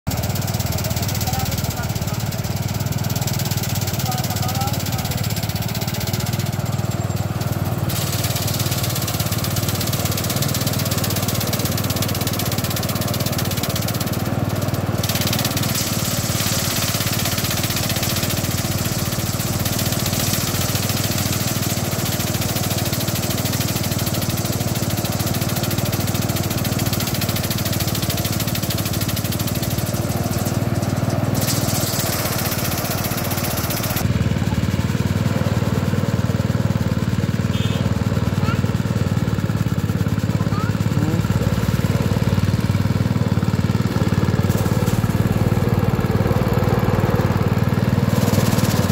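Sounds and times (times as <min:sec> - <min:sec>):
thresher motor hum: 0:00.1 - 0:48.9
threshing drum hiss: 0:00.2 - 0:34.1, 0:43.5 - 0:48.9.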